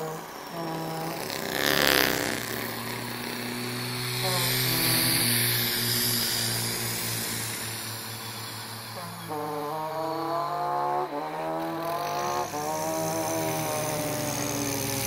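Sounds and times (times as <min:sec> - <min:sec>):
person imitating engine noises: 0:00.0 - 0:07.7, 0:09.1 - 0:15.0.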